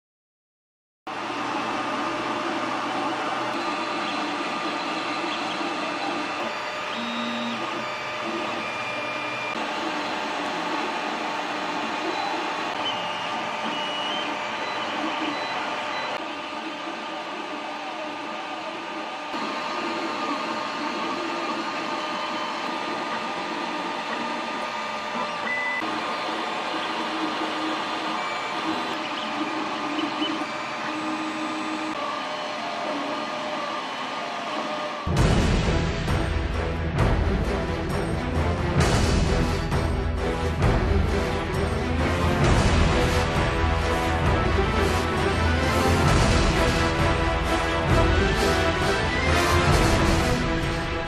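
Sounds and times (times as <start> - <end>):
stepper motors whining: 1.1 - 35.2, 39.4 - 51.0.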